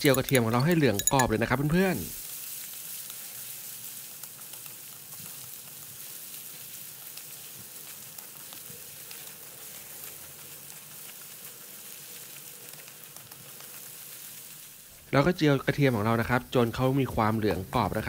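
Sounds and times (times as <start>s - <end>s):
garlic sizzling in hot oil: 0.0s - 18.0s.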